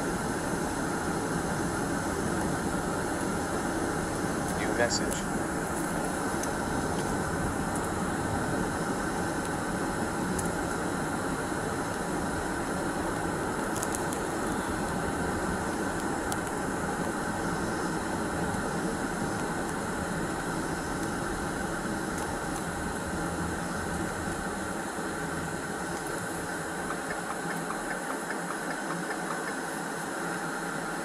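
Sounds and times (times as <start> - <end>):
ventilation fan blowing: 0.0 - 31.0.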